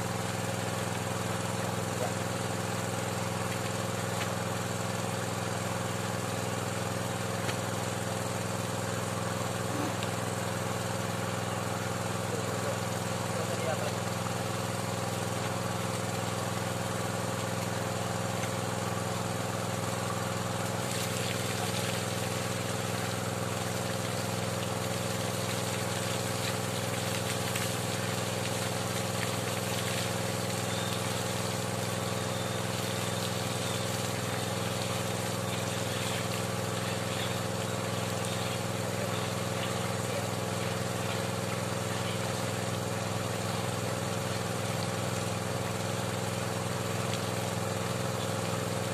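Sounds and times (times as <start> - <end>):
small water pump engine running: 0.0 - 48.9
muddy water splashing: 9.6 - 48.9.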